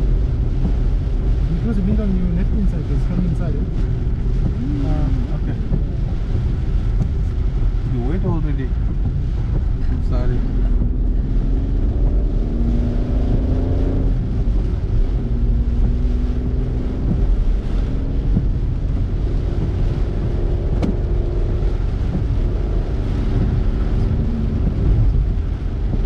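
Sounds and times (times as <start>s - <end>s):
car engine and tyre rumble: 0.0s - 26.0s
wind buffeting through window: 0.0s - 26.0s.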